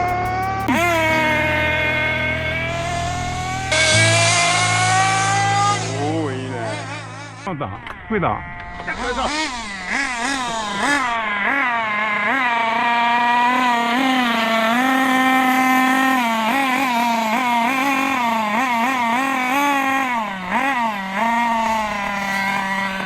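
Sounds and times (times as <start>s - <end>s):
small nitro engine buzzing: 0.0s - 23.0s.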